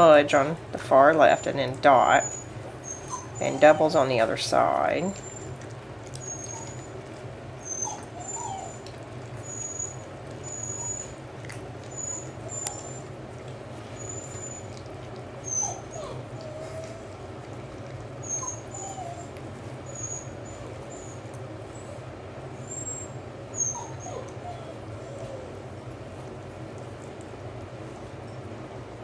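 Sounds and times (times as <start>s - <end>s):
steady low hum: 0.0s - 29.0s
dogs whimpering: 1.1s - 22.0s, 22.6s - 25.8s.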